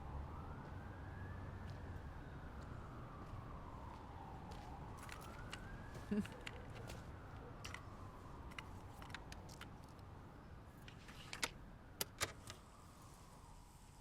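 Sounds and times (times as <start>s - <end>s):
distant siren rising and falling: 0.0s - 14.0s.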